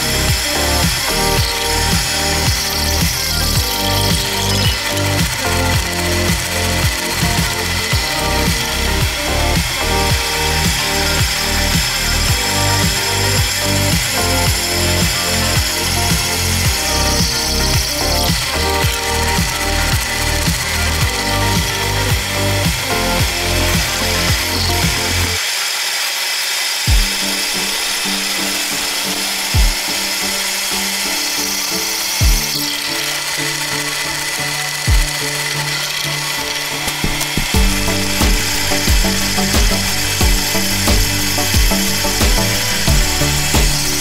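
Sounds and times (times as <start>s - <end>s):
background music: 0.0s - 25.5s, 26.9s - 44.0s
drill press cutting steel: 0.0s - 44.0s.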